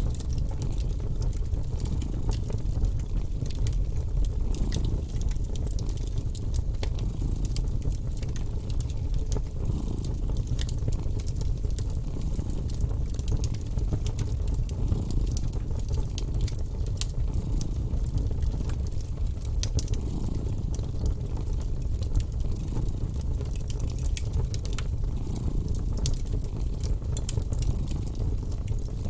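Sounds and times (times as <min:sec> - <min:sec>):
cat purring: 0:00.0 - 0:29.0
wood fire crackling: 0:00.0 - 0:29.0.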